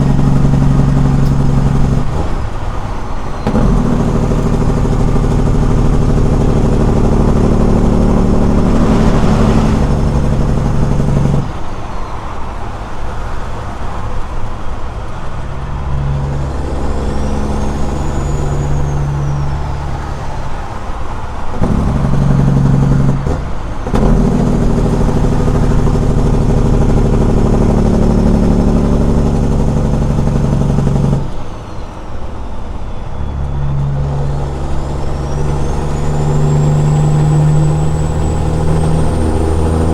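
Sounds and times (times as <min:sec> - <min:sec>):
diesel engine running loud: 0:00.0 - 0:39.9.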